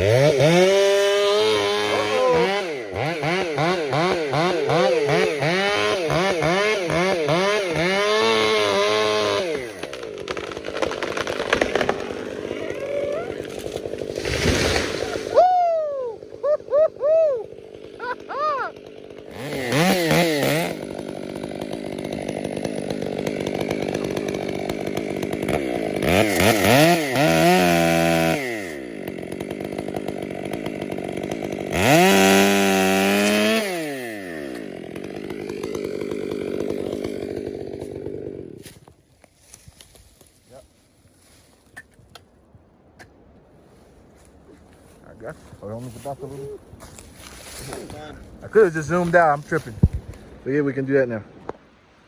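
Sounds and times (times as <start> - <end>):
chainsaw idling and revving: 0.0 - 39.0, 45.2 - 50.7.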